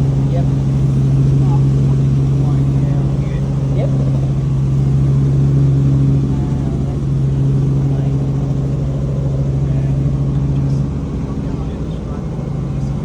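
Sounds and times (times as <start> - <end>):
helicopter engine and gearbox drone: 0.0 - 13.0.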